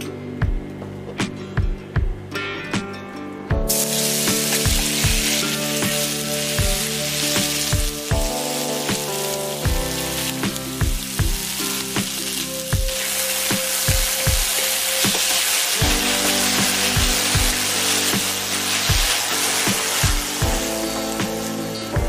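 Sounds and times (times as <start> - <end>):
background music with steady beat: 0.0 - 22.0
beef sizzling in a wok: 3.6 - 22.0.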